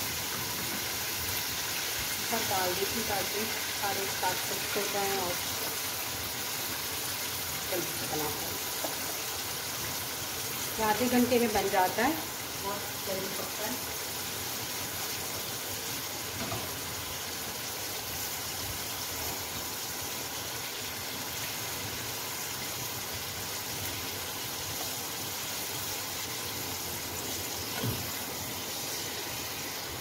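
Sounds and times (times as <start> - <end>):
prawns sizzling in hot oil: 0.0 - 30.0.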